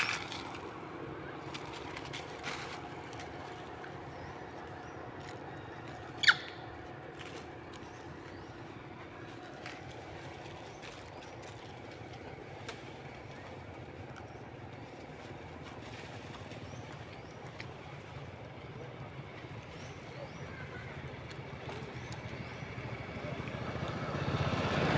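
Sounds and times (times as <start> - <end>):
low background hum: 0.0 - 24.9.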